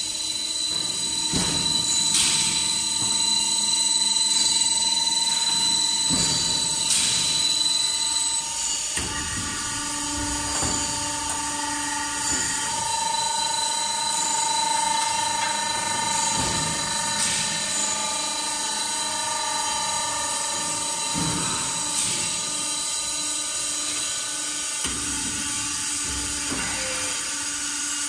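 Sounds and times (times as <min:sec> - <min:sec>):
roll forming machine whine: 0:00.0 - 0:28.0.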